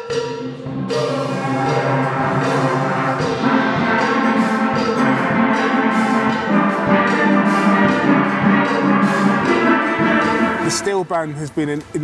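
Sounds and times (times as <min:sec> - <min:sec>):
steelband playing: 0:00.0 - 0:11.9.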